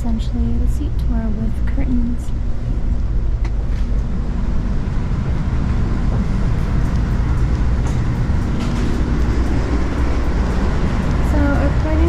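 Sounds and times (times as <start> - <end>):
train rumbling inside passenger car: 0.0 - 12.0.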